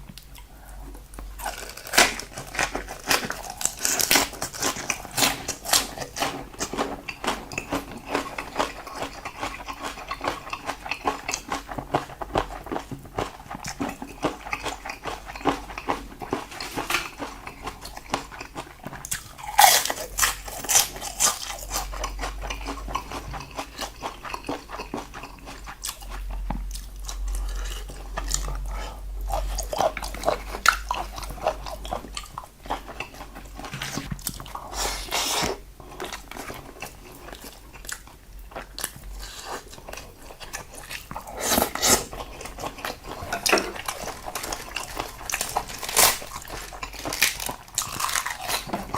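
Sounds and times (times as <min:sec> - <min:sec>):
crunchy chewing: 0:00.0 - 0:48.9.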